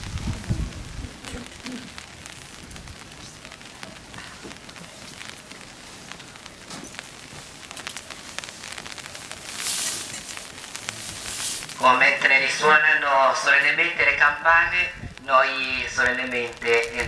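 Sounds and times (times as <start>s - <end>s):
light rain drops ticking: 0.0s - 17.0s
rustling hiss: 0.0s - 17.0s.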